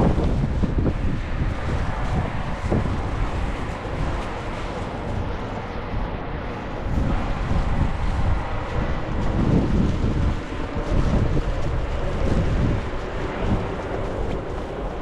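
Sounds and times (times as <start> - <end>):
blizzard wind gusts: 0.0 - 15.0.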